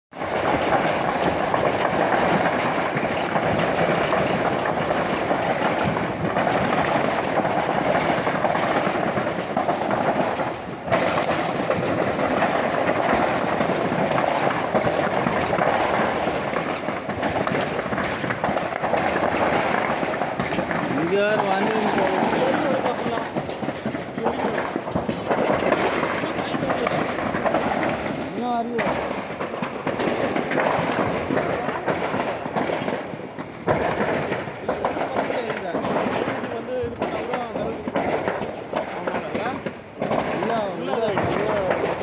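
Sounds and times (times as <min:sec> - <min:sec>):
fire crackling and popping: 0:00.1 - 0:42.0.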